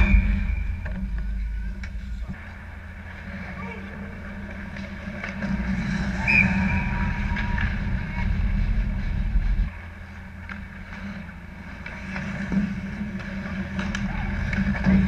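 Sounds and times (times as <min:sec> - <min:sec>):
low rink rumble: 0:00.0 - 0:15.0
sticks and puck clacking: 0:00.8 - 0:08.9, 0:09.7 - 0:15.0
skates scraping on ice: 0:02.4 - 0:15.0.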